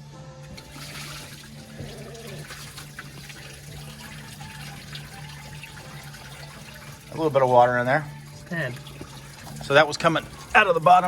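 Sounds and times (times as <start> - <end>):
water trickling from hose: 0.4 - 11.0.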